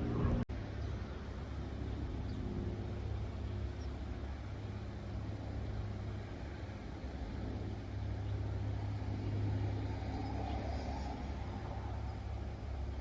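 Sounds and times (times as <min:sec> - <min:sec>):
low engine rumble with hum: 0:00.0 - 0:13.0.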